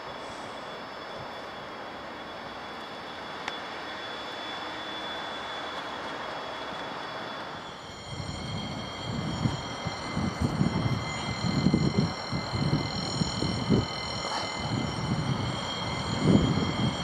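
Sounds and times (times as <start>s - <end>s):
distant train rushing: 0.0s - 17.0s
steady high tones: 0.0s - 17.0s
thin high whine: 0.0s - 17.0s.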